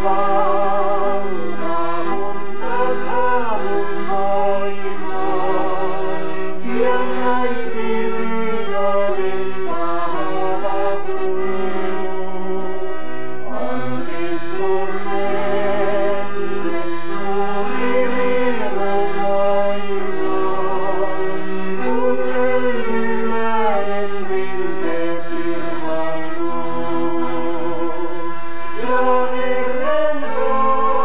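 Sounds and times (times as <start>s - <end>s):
accordion chords: 0.0s - 31.0s
person singing with vibrato: 0.0s - 31.0s.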